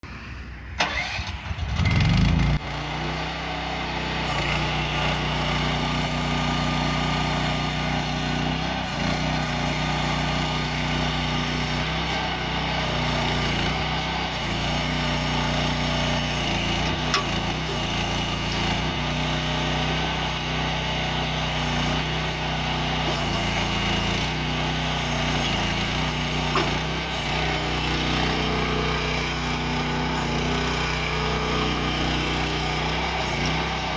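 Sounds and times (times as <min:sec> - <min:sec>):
small engine cranking and running: 0:00.8 - 0:33.9.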